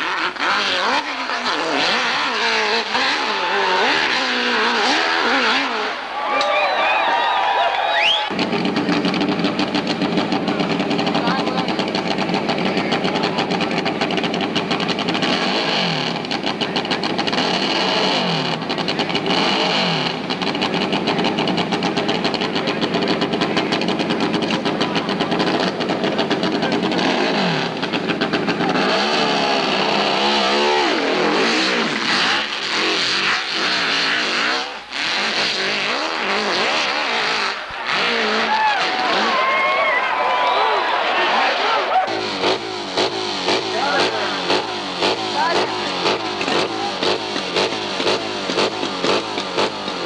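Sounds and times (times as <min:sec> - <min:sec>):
racing motorcycle engine revving: 0:00.0 - 0:50.0.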